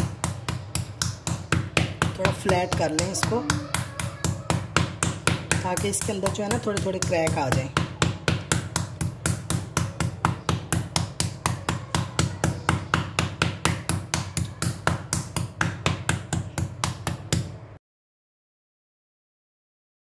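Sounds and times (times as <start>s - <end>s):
meat mallet pounding meat: 0.0s - 17.7s.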